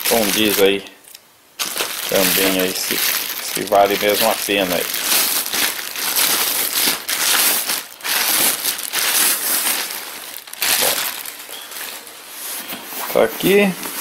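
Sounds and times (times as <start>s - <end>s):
plastic bag crinkling: 0.0s - 0.9s, 1.6s - 14.0s.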